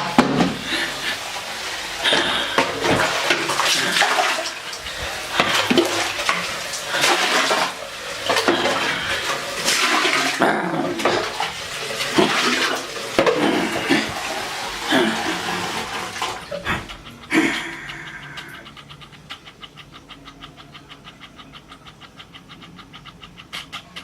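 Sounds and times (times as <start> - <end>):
water gushing into toilet bowl: 0.0 - 20.1.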